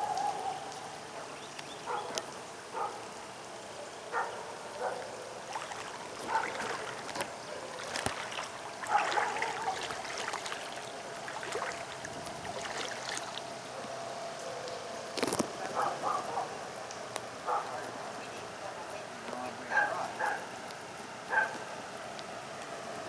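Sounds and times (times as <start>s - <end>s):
floodwater splashing: 0.0s - 22.8s.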